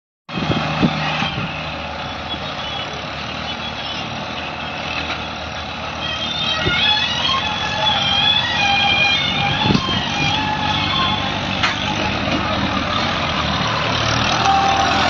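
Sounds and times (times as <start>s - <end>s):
excavator engine running: 0.3s - 15.0s
tractor diesel engine running: 0.3s - 15.0s.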